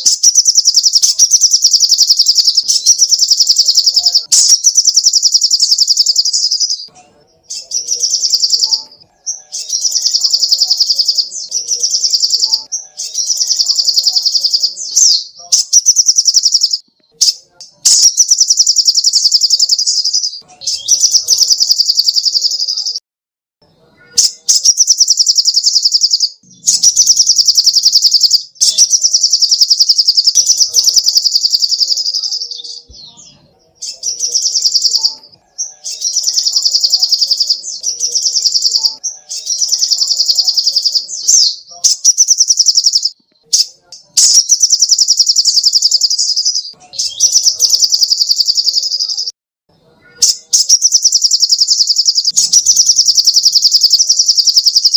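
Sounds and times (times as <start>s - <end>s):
bird chattering trills: 0.0s - 23.0s, 24.0s - 49.3s, 50.0s - 54.9s.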